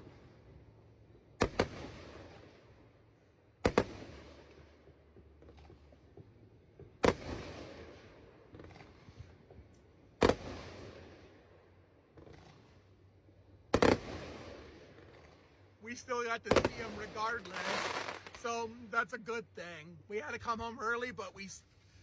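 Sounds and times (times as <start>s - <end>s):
fireworks bursting with echo: 1.3s - 2.9s, 3.6s - 13.0s, 13.7s - 21.8s.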